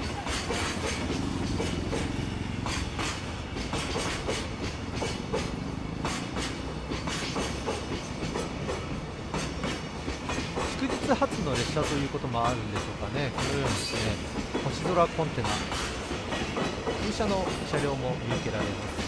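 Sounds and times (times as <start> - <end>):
freight train rumble: 0.0 - 19.0
train wheels clacking on rail joints: 0.0 - 19.0.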